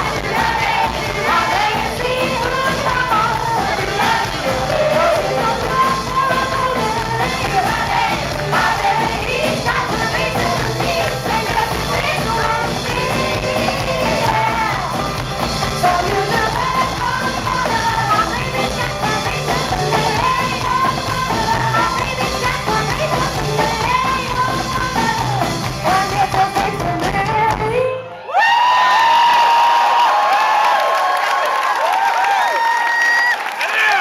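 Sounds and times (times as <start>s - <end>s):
live band music: 0.0s - 27.9s
woman singing: 0.0s - 28.2s.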